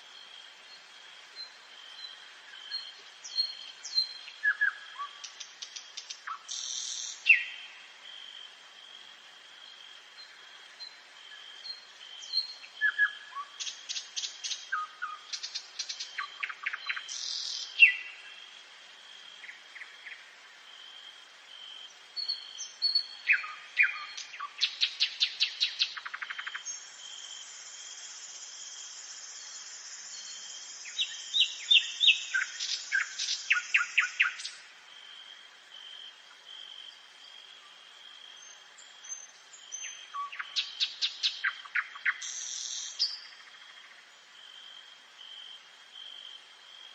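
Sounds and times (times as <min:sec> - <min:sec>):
nightingale singing: 0:00.0 - 0:07.8, 0:09.6 - 0:18.4, 0:22.2 - 0:34.7, 0:35.8 - 0:44.4.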